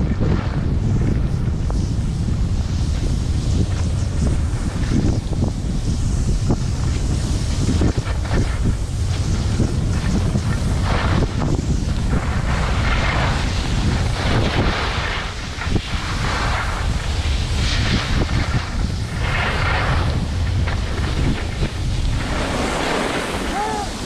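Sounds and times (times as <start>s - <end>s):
skis scraping snow: 0.0s - 24.0s
wind rumble on microphone: 0.0s - 24.0s.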